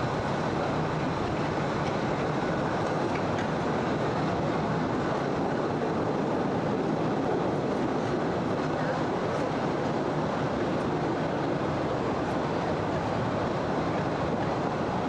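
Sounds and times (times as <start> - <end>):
train cars rumbling: 0.0 - 15.0.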